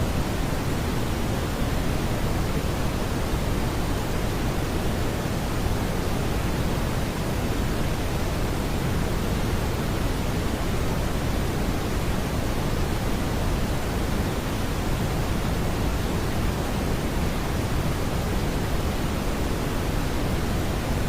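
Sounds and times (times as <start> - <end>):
brown noise hiss: 0.0 - 21.0.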